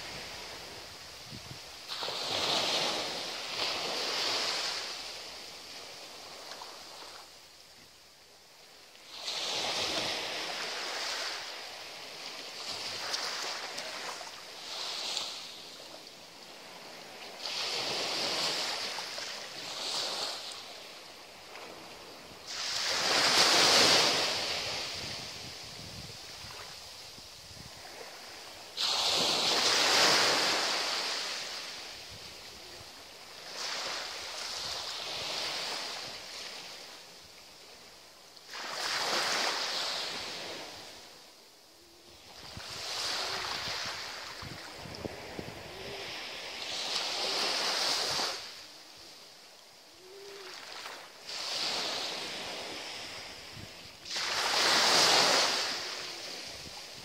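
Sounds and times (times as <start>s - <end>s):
small waves washing on sand: 0.0s - 57.0s.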